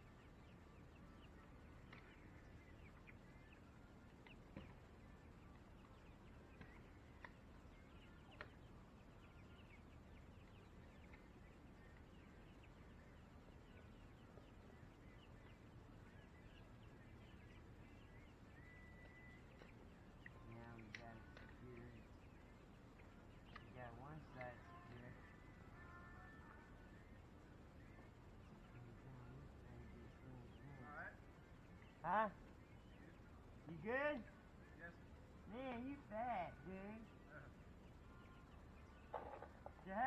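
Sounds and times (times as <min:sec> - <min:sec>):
faint bird chirps: 0:00.0 - 0:40.0.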